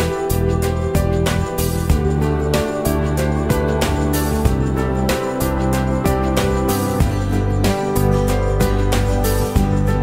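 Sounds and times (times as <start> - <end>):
instrumental chords over a beat: 0.0 - 10.0.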